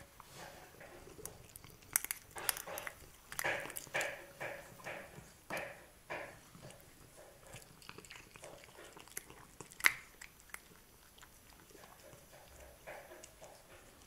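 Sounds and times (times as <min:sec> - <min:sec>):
cats licking and chewing: 0:00.0 - 0:14.0.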